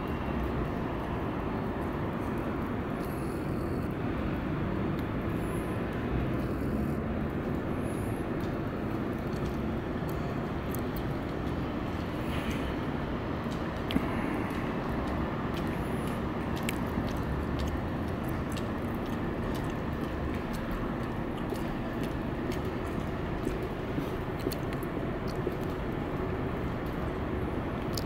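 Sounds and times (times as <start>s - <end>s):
urban background rumble: 0.0s - 28.0s.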